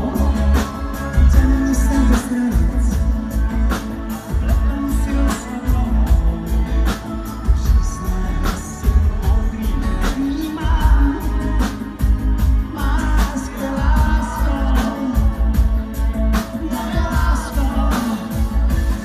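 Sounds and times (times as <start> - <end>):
man singing: 0.0 - 19.0
pop-rock band playing: 0.0 - 19.0
steady drumbeat: 0.0 - 19.0.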